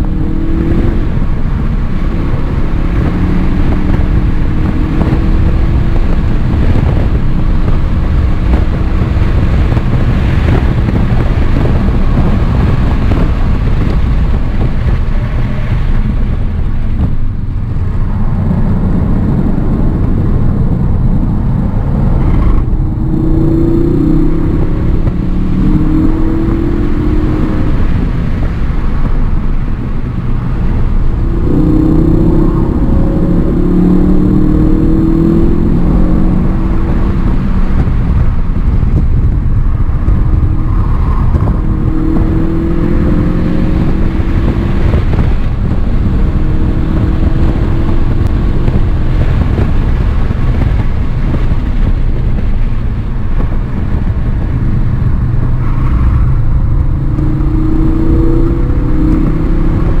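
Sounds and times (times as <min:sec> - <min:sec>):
car engine accelerating: 0:00.0 - 1:00.0
road and wind noise: 0:00.0 - 1:00.0.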